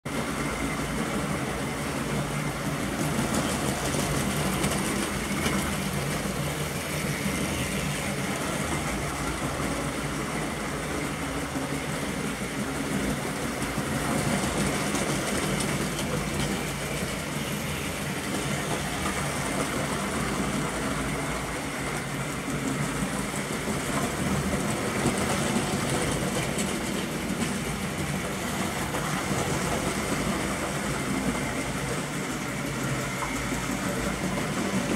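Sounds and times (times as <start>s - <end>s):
model train running on track: 0.0s - 34.9s.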